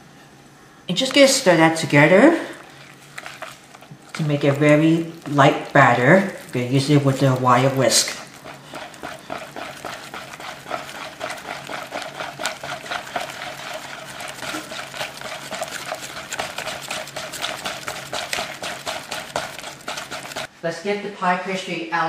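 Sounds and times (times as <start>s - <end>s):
whisk beating thick batter: 1.0s - 20.5s.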